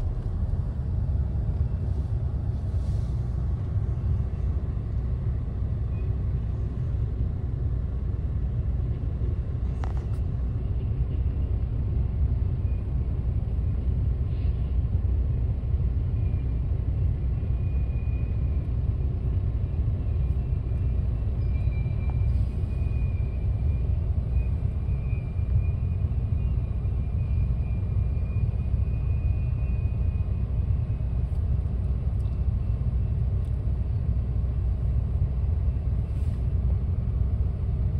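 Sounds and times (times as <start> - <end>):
car cabin road rumble: 0.0 - 37.9.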